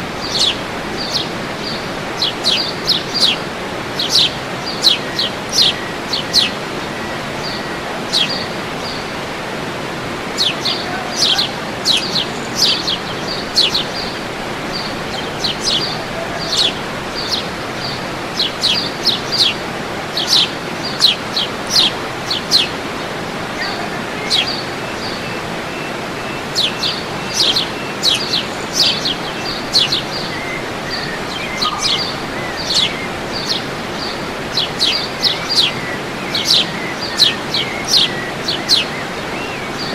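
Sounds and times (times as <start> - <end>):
birds chirping: 0.0 - 39.9
waterfall rushing: 0.0 - 39.9.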